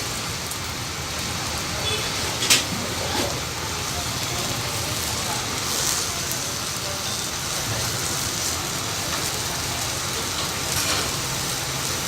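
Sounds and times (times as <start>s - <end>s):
batter sizzling on griddle: 0.0s - 12.0s.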